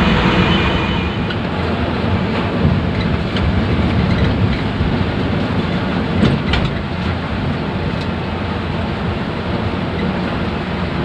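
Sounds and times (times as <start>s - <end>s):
bus engine and tyre rumble: 0.0s - 11.0s.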